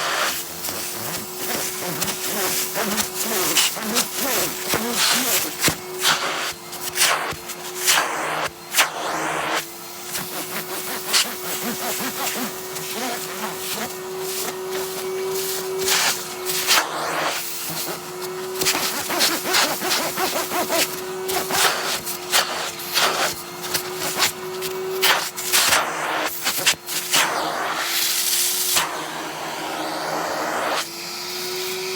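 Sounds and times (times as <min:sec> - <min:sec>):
nozzle scraping over jacket: 0:00.0 - 0:08.5, 0:09.1 - 0:28.9
vacuum cleaner motor running: 0:00.0 - 0:31.9.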